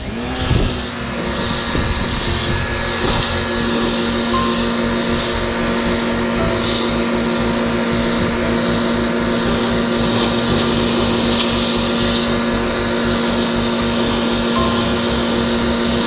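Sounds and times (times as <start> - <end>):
pressure washer motor running: 0.0 - 16.0
water jet hissing on concrete: 0.0 - 16.0.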